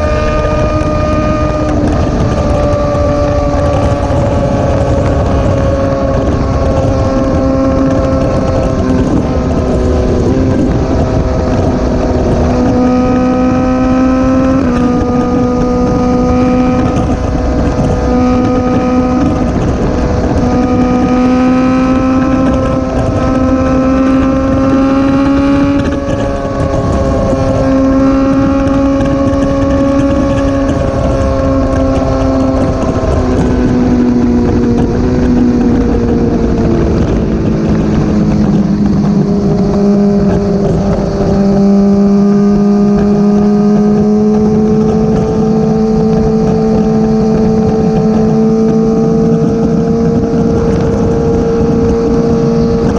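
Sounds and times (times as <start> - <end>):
motorcycle engine at high revs: 0.0 - 52.9
wind rushing over microphone: 0.0 - 52.9.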